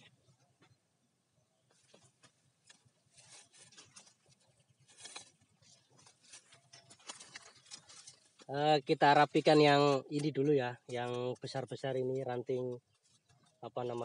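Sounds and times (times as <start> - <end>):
faint rustles and ticks: 1.6 - 14.0.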